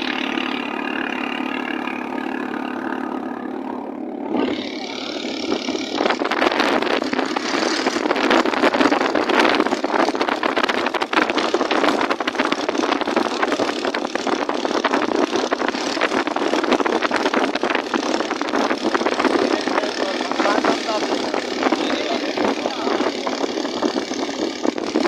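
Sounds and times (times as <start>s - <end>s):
motor engine running: 0.0s - 25.0s
dense rushing noise: 4.3s - 25.0s.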